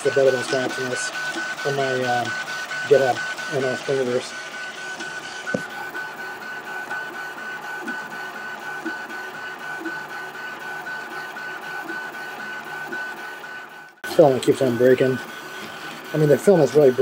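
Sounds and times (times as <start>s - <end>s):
printer motors whirring: 0.0s - 17.0s.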